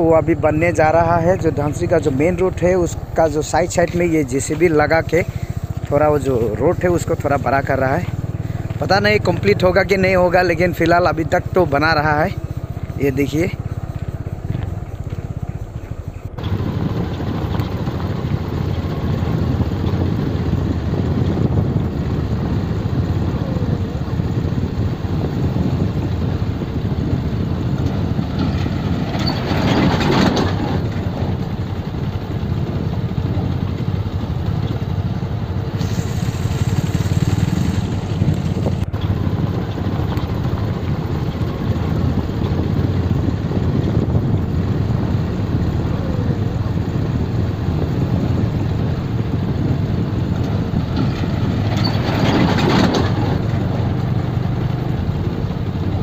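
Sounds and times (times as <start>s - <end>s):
motorcycle engine and tyre rumble: 0.0s - 56.0s.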